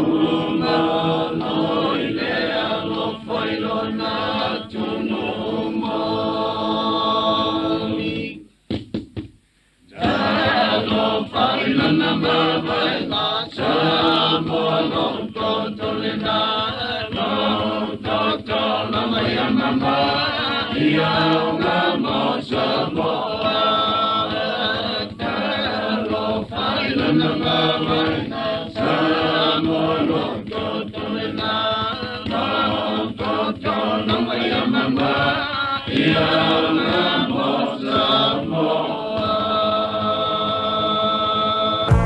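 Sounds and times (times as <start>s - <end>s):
group singing chant-like song: 0.0s - 8.5s, 9.9s - 42.0s.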